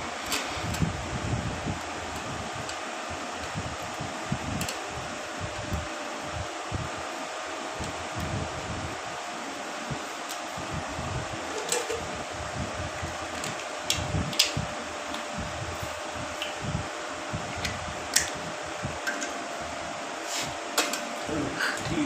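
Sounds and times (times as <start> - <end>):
electric fan whirring: 0.0 - 22.0
faint constant hum: 0.0 - 22.0.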